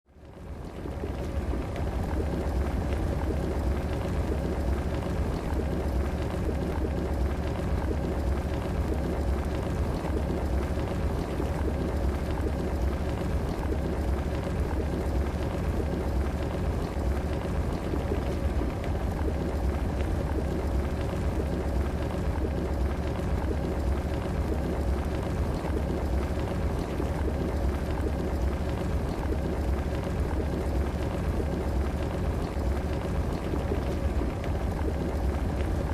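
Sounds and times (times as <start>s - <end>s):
faint steady whine: 0.1s - 35.9s.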